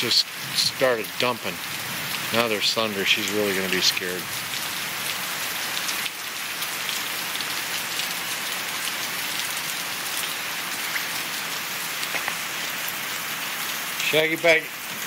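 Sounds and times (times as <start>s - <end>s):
raindrop impacts: 0.0s - 5.2s, 5.8s - 15.0s
heavy rain pouring: 0.0s - 15.0s.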